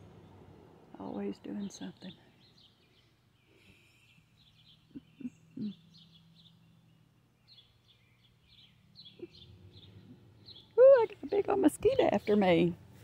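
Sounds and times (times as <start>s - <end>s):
low steady hum: 0.0s - 13.0s
faint bird chirps: 1.0s - 12.6s.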